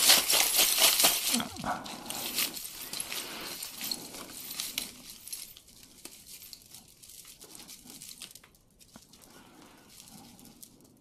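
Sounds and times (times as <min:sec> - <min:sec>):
jewelry beads clicking and clinking: 0:00.0 - 0:11.0.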